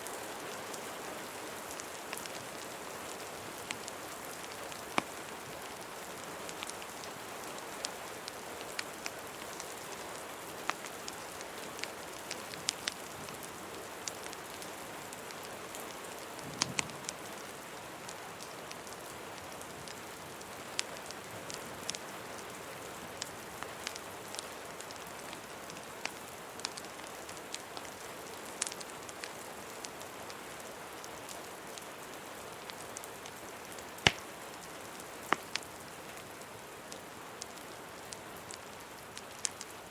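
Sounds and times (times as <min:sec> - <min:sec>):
rain hiss: 0:00.0 - 0:39.9
wood fire crackling: 0:01.7 - 0:19.1, 0:19.9 - 0:22.5, 0:23.1 - 0:39.9.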